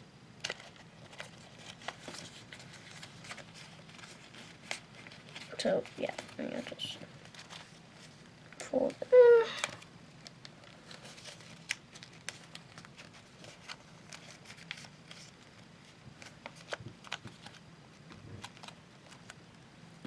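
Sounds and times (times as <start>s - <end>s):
paper being folded and creased: 0.4s - 19.4s.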